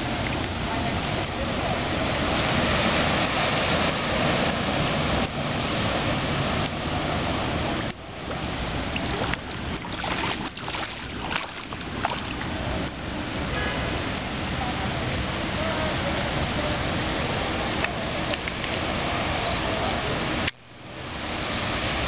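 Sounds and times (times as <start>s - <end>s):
vehicles driving through water: 0.0s - 22.0s
water rushing and splashing: 0.0s - 22.0s.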